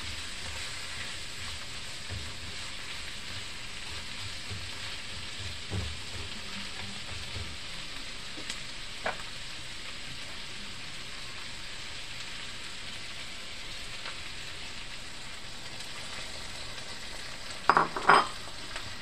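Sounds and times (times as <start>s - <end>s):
vegetables sizzling in wok: 0.0s - 19.0s.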